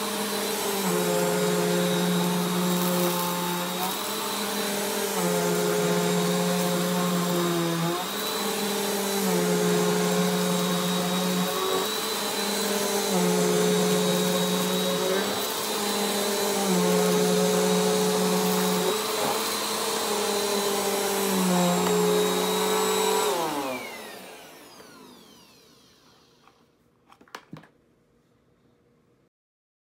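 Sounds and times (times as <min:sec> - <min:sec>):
vacuum cleaner on carpet: 0:00.0 - 0:26.5
vacuum motor winding down: 0:00.0 - 0:26.5.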